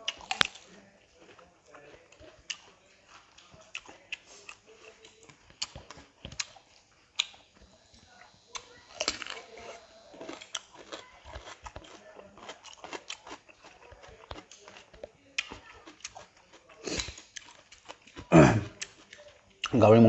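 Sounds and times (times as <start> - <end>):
crunching cucumber bites: 0.0 - 20.0
wet eating clicks: 0.0 - 20.0.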